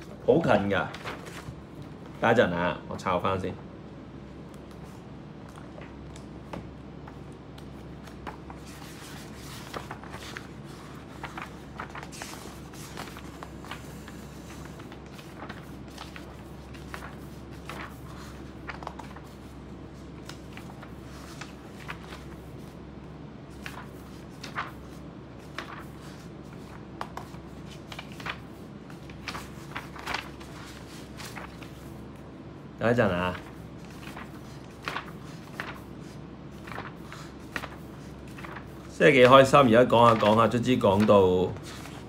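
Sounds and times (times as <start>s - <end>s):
book pages rustling: 0.0s - 2.2s, 4.6s - 22.8s, 23.5s - 32.3s, 33.0s - 42.0s
steady low hum: 0.0s - 42.0s.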